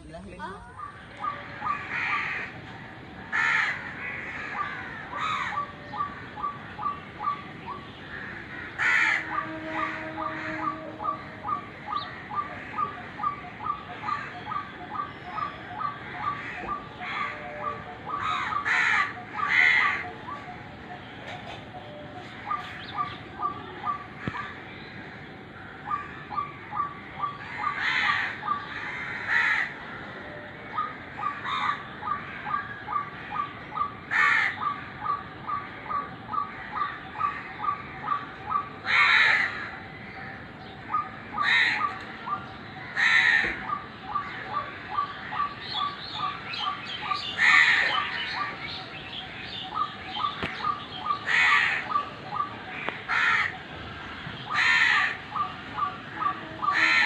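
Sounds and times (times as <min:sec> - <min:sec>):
waterhens croaking: 0:00.0 - 0:57.0.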